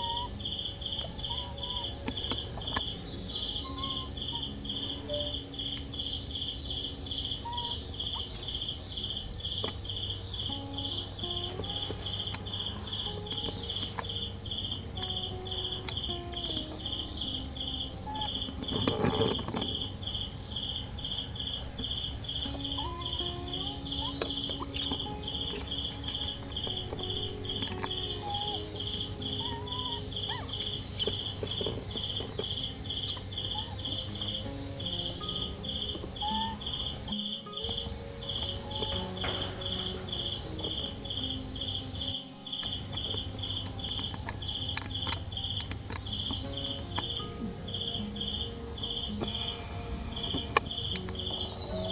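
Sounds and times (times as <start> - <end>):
continuous high buzz: 0.0 - 51.9
insects chirping: 0.0 - 51.9.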